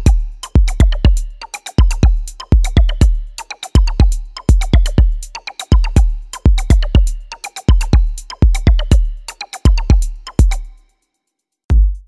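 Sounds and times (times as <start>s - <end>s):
electronic music with steady beat: 0.0s - 10.9s, 11.7s - 12.0s.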